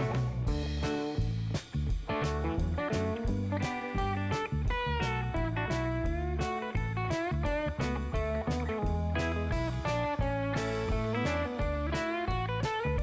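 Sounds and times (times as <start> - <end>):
drum beat: 0.0 - 13.0
guitar bending notes: 0.0 - 13.0.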